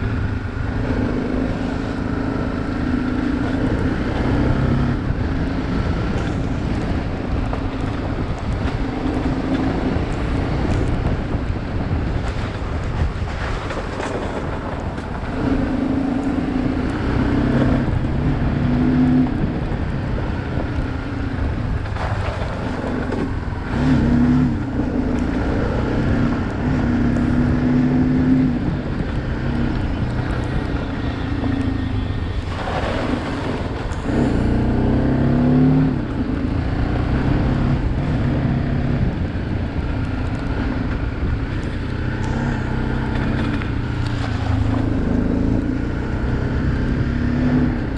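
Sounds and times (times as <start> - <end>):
motorcycle engine running: 0.0 - 47.9
wind noise on microphone: 0.0 - 47.9.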